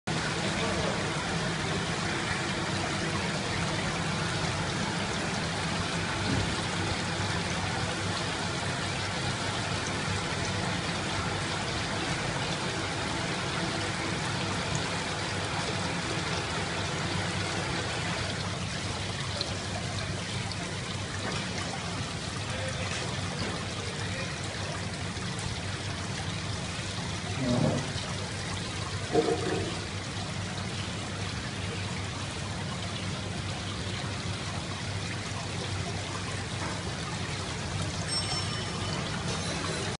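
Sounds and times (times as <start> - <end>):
water pouring and splashing: 0.1 - 39.9
air bubbles streaming: 0.2 - 38.2.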